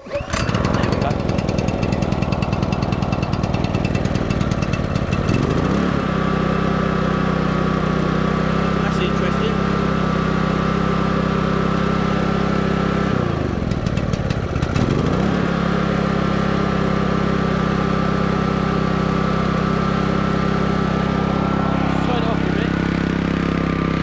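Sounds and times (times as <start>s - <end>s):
generator engine running: 0.0s - 24.0s.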